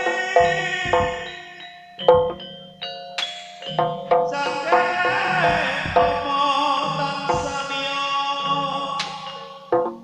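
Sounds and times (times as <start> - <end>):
drum strokes: 0.0 - 1.4, 2.0 - 2.6, 3.6 - 10.0
gamelan metallophones ringing: 0.0 - 10.0.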